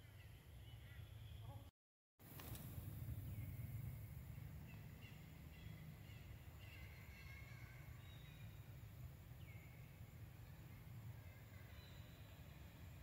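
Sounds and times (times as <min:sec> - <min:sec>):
low steady rumble: 0:02.3 - 0:13.0.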